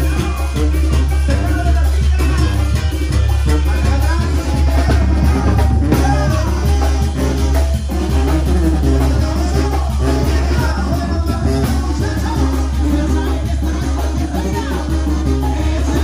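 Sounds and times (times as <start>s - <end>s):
brass band dance tune: 0.0s - 16.0s.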